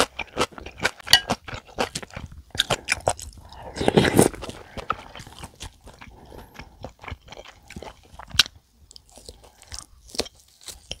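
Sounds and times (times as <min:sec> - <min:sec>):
chewing with wet mouth clicks: 0:00.0 - 0:11.0.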